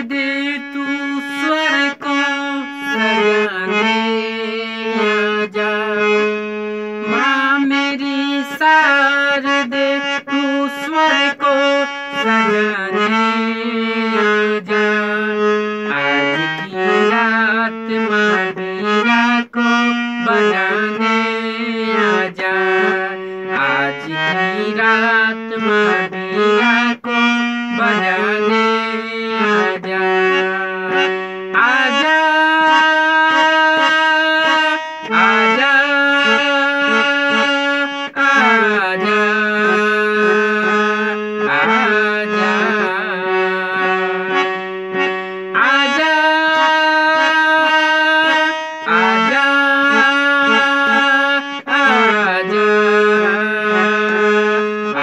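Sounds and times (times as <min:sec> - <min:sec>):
harmonium melody: 0:00.0 - 0:55.0
man singing: 0:00.0 - 0:55.0.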